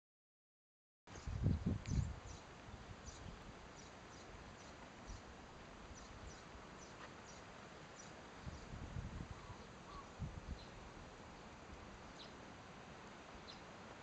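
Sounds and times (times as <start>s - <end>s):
small birds chirping: 1.1s - 12.4s, 13.0s - 13.8s
faint background hiss: 1.1s - 14.0s.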